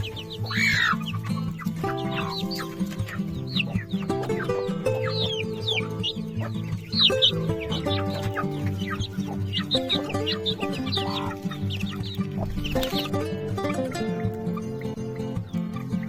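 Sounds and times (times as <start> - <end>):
background music with held notes: 0.0 - 16.0
chickens peeping: 0.0 - 16.0.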